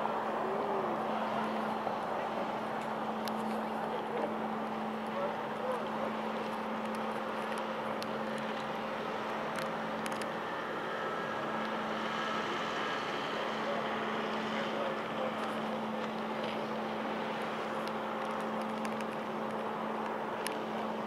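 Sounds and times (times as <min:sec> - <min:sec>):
ship machinery drone: 0:00.0 - 0:21.0.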